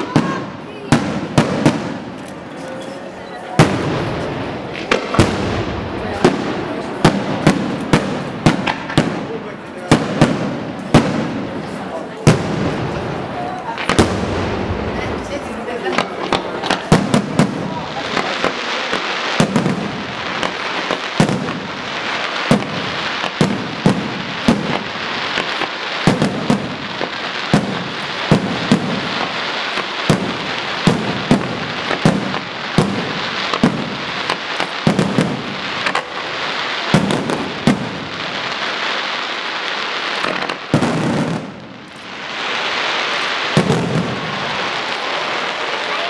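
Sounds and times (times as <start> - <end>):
fireworks bursting: 0.0 - 46.0
fireworks hiss: 3.6 - 46.0.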